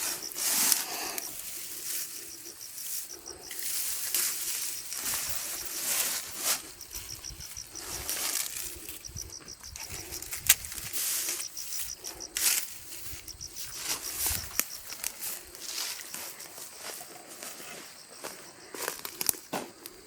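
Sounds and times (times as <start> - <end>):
dry leaves crunching underfoot: 0.0 - 9.0, 10.0 - 19.4
insect chirping: 0.0 - 20.0.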